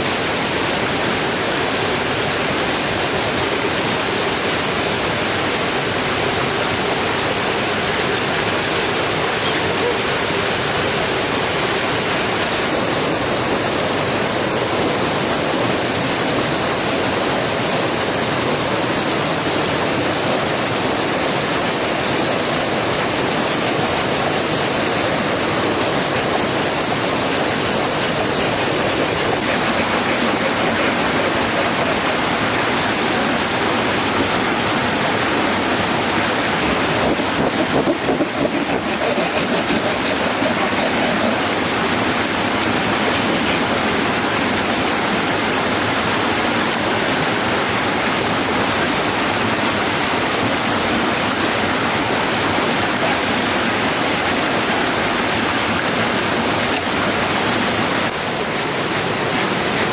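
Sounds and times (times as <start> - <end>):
heavy rain hissing: 0.0 - 52.8.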